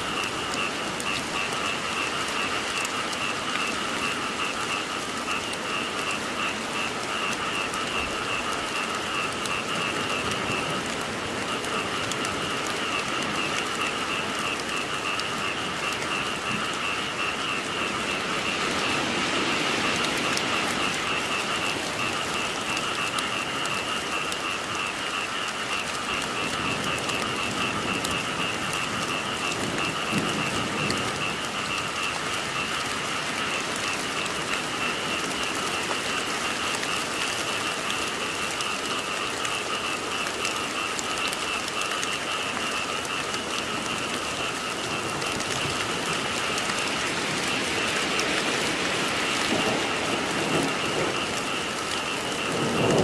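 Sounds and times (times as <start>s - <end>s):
frogs calling in trills: 0.0s - 53.0s
steady rain falling: 0.0s - 53.0s.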